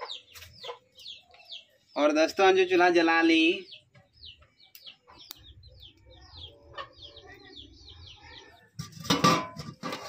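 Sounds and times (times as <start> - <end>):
bird chirping: 0.0 - 9.0.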